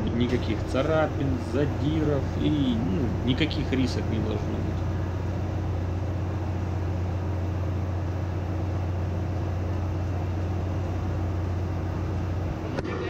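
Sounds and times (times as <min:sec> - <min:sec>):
ship engine room machinery hum: 0:00.0 - 0:13.0.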